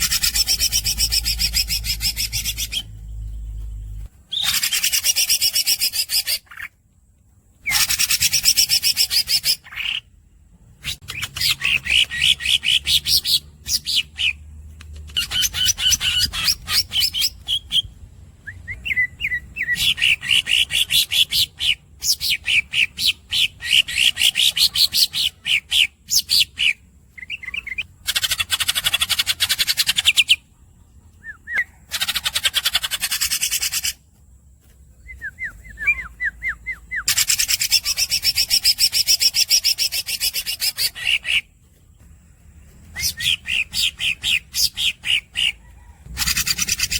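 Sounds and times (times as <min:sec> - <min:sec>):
squeaky bird chirps: 0:00.0 - 0:03.1, 0:03.9 - 0:06.8, 0:07.6 - 0:10.1, 0:10.8 - 0:14.4, 0:15.1 - 0:17.9, 0:18.7 - 0:30.5, 0:31.2 - 0:34.0, 0:35.0 - 0:41.5, 0:42.8 - 0:46.9
bird singing fast repeated notes: 0:00.0 - 0:06.8, 0:07.6 - 0:34.1, 0:35.0 - 0:46.9.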